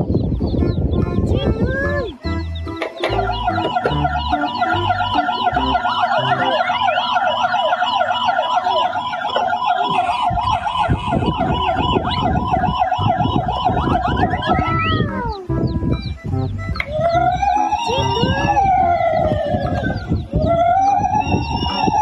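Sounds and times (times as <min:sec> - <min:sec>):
toy siren wailing: 0:02.2 - 0:15.5, 0:16.6 - 0:22.0.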